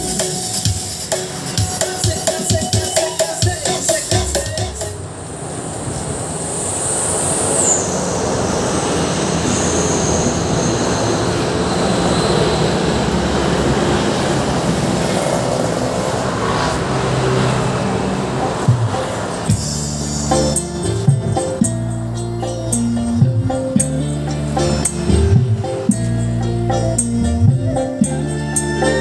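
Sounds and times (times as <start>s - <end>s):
rushing noise with high whistle: 0.0s - 29.0s.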